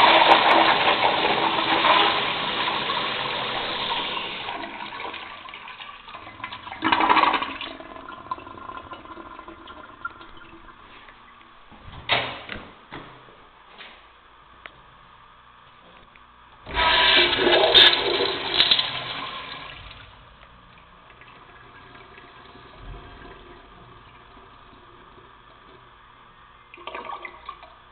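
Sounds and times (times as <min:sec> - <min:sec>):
toilet flushing: 0:00.0 - 0:11.1, 0:16.6 - 0:27.9.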